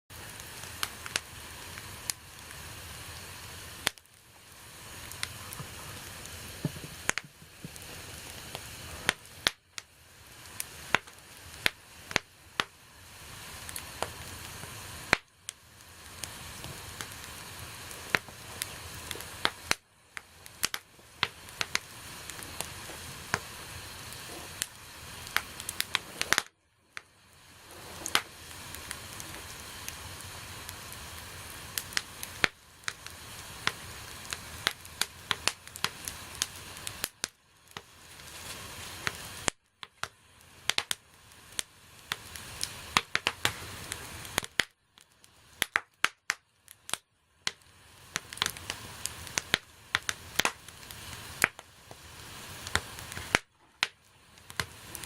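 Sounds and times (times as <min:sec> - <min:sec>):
bonfire crackling and popping: 0:00.1 - 0:55.0
bonfire hissing: 0:00.1 - 0:55.0.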